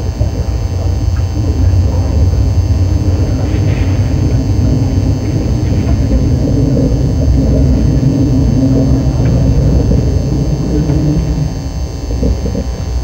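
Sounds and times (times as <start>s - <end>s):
train rumbling on track: 1.6s - 12.3s.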